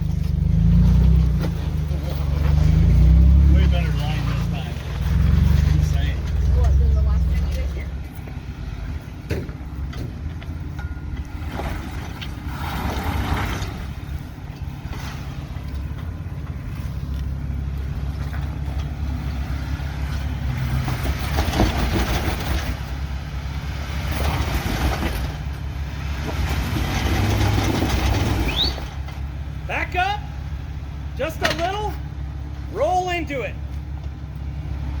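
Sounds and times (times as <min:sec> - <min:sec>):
engine running at low revs: 0:00.0 - 0:32.7.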